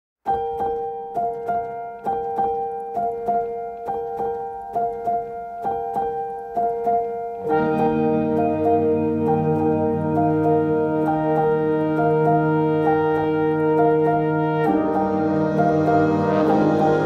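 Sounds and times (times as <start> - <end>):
instrumental background music: 0.3 - 17.0.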